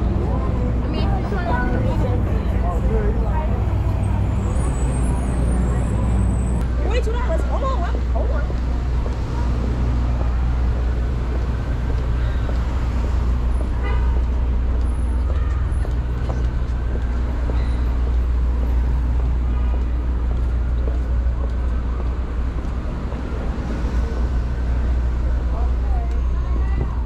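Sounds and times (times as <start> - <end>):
low rumble of car engines: 0.0 - 27.0.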